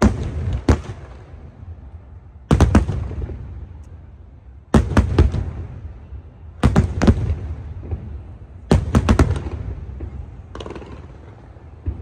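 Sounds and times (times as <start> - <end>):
fireworks bangs: 0.0 - 3.8, 4.6 - 12.0.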